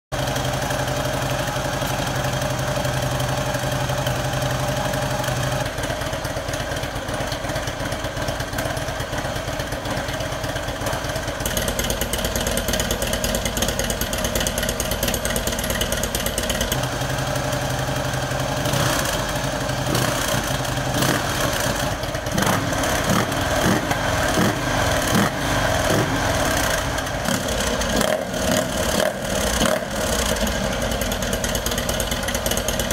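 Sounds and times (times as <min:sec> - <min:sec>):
motorcycle engine idling: 0:00.2 - 0:32.9.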